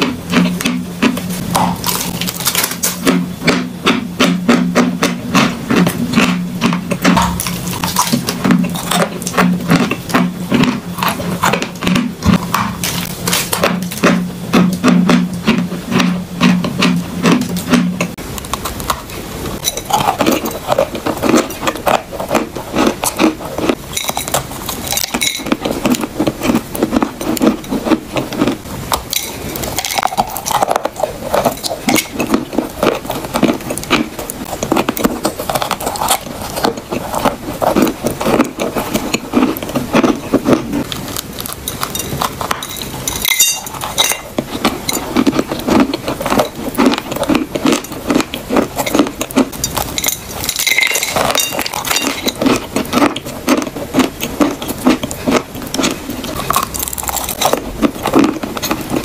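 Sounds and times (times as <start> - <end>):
chewing chalk crunching: 0.0 - 59.0.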